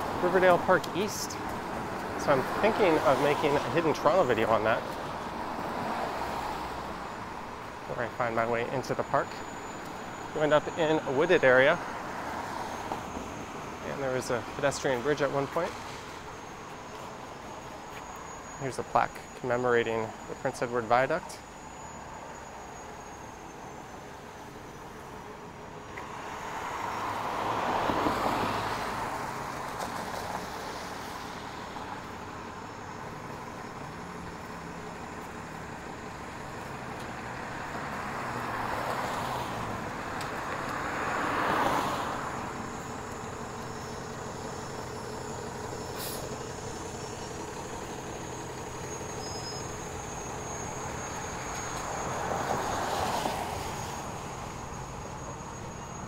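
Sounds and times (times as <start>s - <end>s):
traffic hum: 0.0s - 56.0s
vehicles passing: 0.0s - 56.0s.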